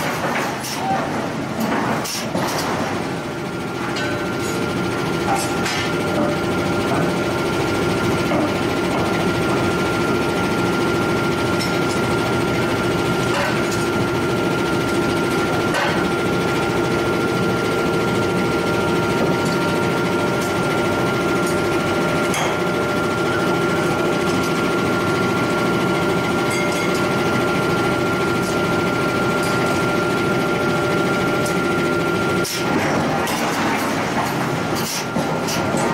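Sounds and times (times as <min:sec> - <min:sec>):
machinery drone with high whine: 0:00.0 - 0:35.9.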